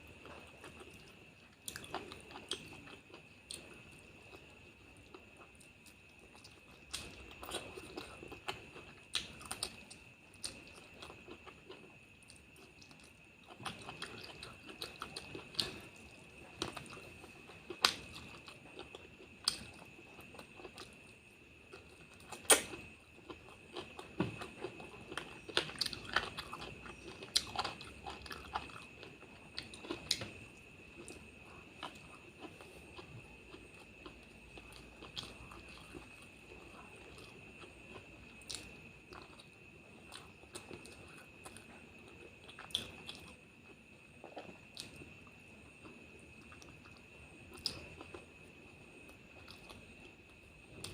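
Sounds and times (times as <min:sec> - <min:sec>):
faint high whine: 0:00.0 - 0:50.9
person chewing and smacking: 0:00.2 - 0:50.9.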